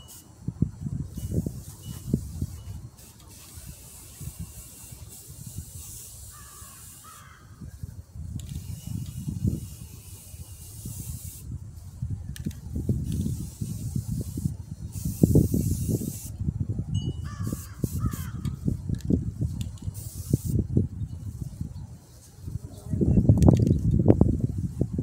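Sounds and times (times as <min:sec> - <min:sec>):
spray paint can hissing: 0:00.0 - 0:16.4, 0:17.3 - 0:22.6
wind on microphone: 0:00.0 - 0:25.0.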